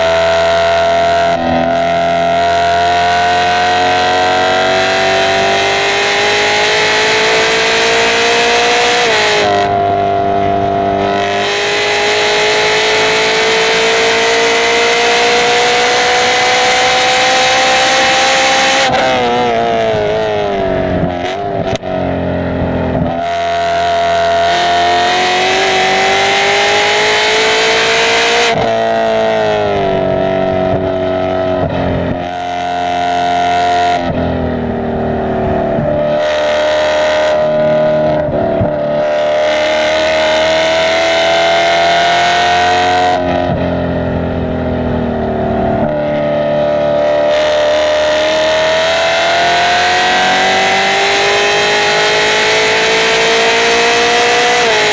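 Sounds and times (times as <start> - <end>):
race car engine at full throttle: 0.0 - 54.9.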